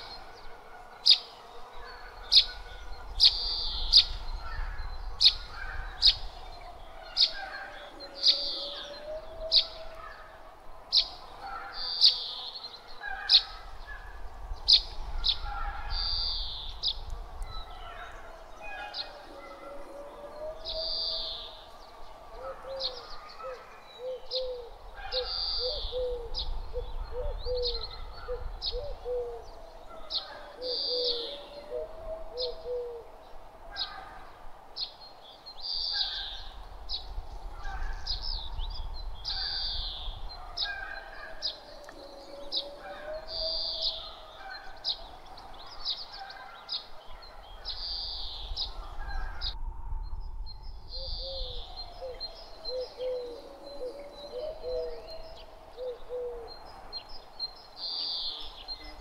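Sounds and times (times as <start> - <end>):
birds chirping: 0.0 - 59.0
low rumble of breeze: 0.0 - 59.0.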